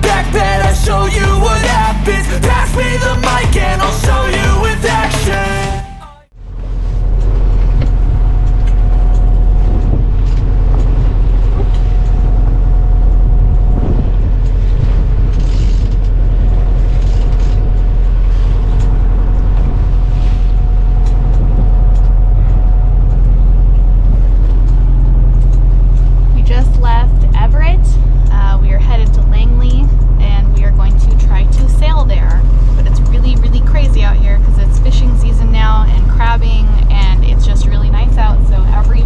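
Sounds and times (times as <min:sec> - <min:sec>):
boat engine running: 0:00.0 - 0:39.0
steady tones: 0:00.0 - 0:39.0.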